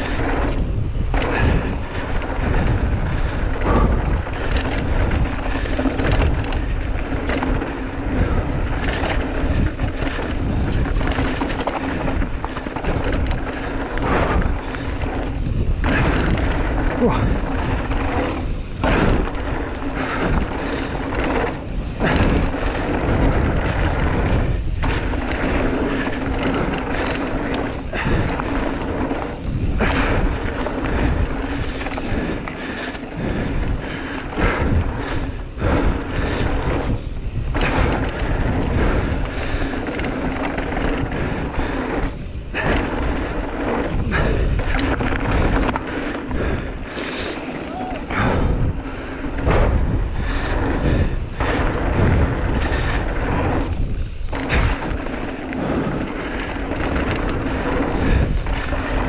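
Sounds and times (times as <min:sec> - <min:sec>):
bike tyres rattling over gravel: 0:00.0 - 0:59.0
wind buffeting microphone: 0:00.0 - 0:59.0.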